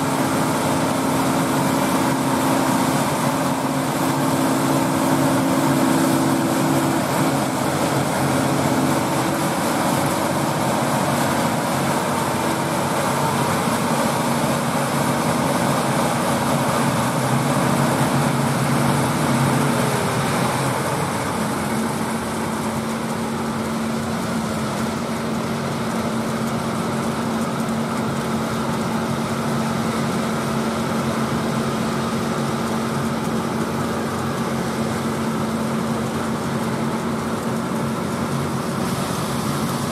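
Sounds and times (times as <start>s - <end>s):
diesel engines droning: 0.0s - 39.9s
threshing machinery: 0.0s - 39.9s.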